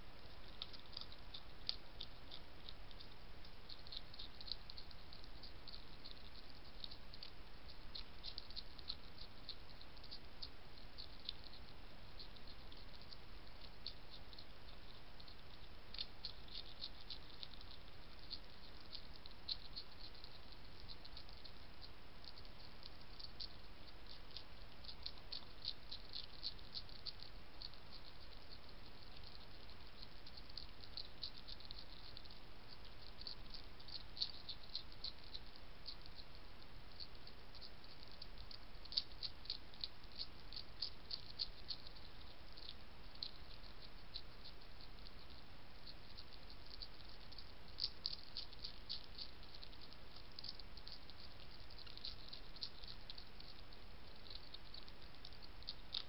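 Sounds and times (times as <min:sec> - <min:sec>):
faint steady hiss: 0:00.0 - 0:56.0
hedgehog crunching food pellets: 0:00.1 - 0:56.0.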